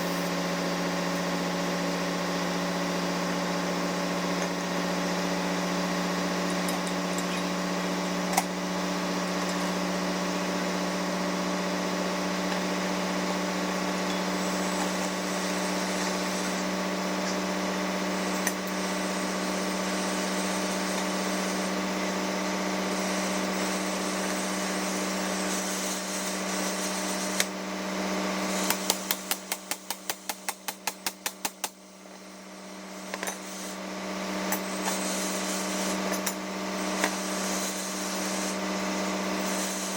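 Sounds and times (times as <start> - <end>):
engine-room machinery humming: 0.0 - 39.9.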